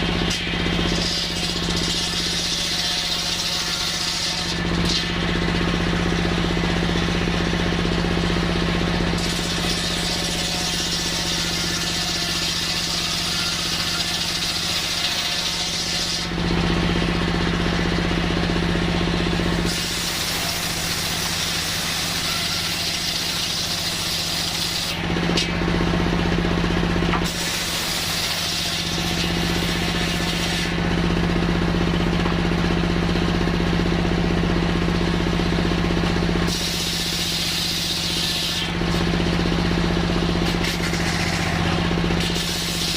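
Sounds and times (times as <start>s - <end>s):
circular saw cutting wood: 0.0s - 34.2s, 35.3s - 42.9s.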